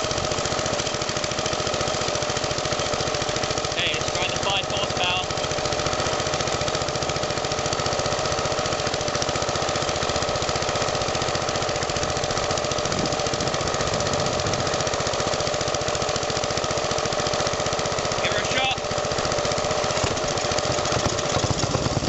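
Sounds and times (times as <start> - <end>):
single-cylinder engine running: 0.0 - 22.0.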